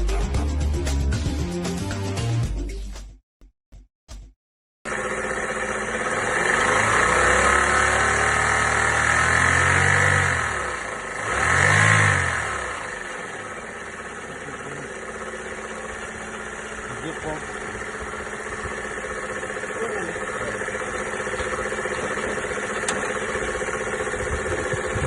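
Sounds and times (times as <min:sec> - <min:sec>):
car engine revving and idling: 0:04.9 - 0:25.0
engine knocking and rattling: 0:04.9 - 0:25.0.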